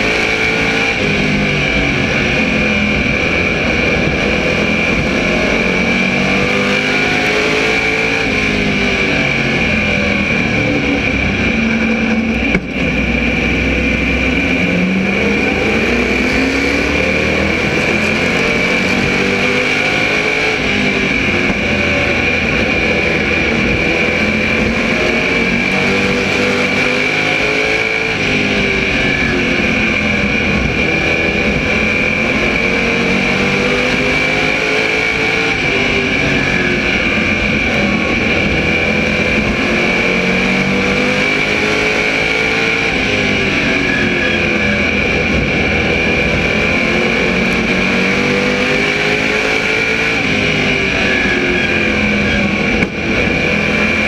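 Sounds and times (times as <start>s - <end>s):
race car engine revving: 0.0s - 54.0s
steady high whine: 0.0s - 54.0s.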